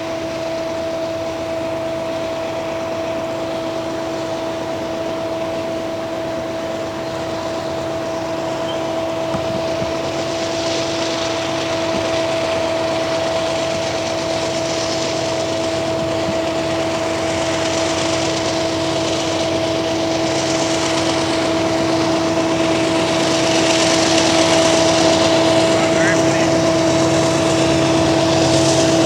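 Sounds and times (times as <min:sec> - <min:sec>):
locomotive engine drone: 0:00.0 - 0:29.0.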